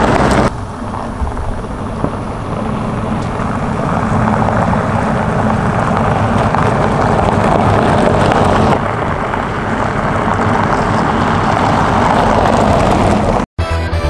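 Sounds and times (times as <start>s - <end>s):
tyres on loose gravel: 0.0s - 13.4s
car engine rumble: 0.0s - 13.5s.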